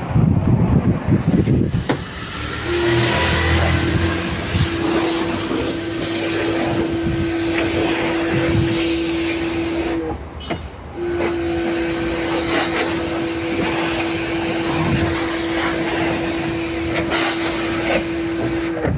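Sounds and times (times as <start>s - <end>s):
cleaning machine motor humming: 1.6s - 10.0s, 11.0s - 18.8s.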